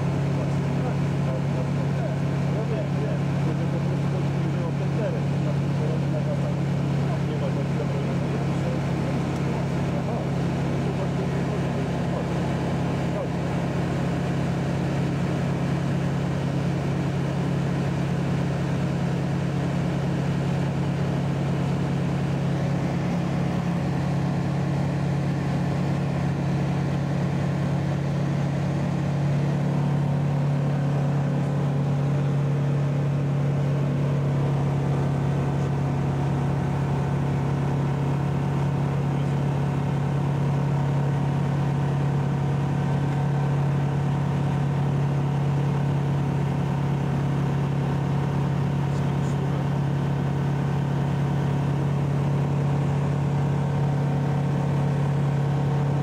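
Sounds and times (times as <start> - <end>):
aircraft engine humming in cockpit: 0.0 - 56.0.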